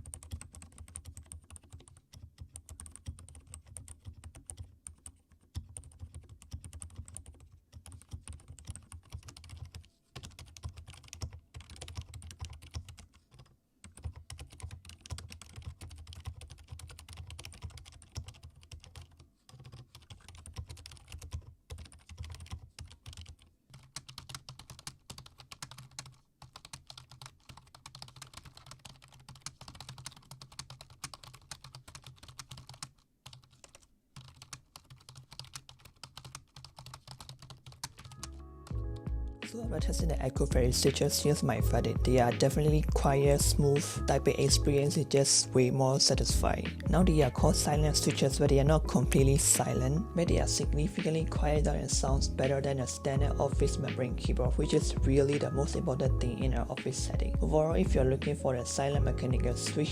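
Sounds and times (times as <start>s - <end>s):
typing on keyboard: 0.0s - 45.5s, 46.2s - 59.9s.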